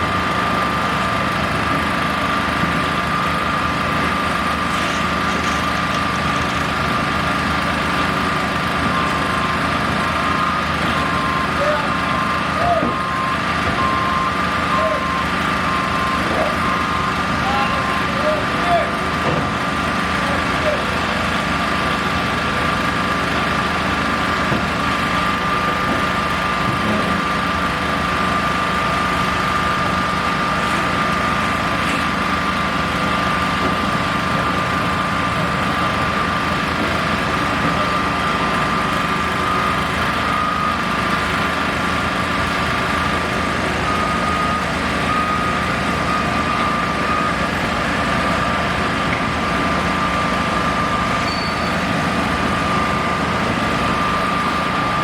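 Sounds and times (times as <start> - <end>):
machinery engine running: 0.0 - 55.0.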